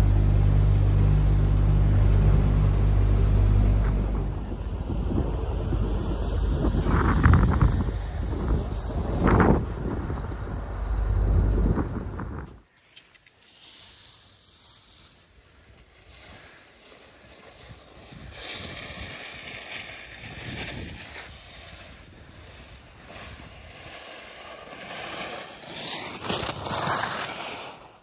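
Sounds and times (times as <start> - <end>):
skis scraping over snow: 0.0 - 28.0.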